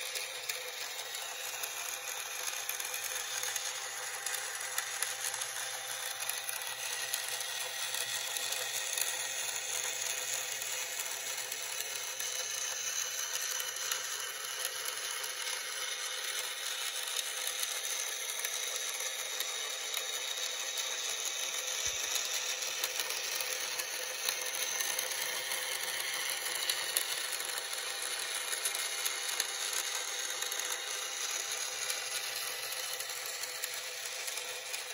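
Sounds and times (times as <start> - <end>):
small motor and gears whirring: 0.0 - 34.9.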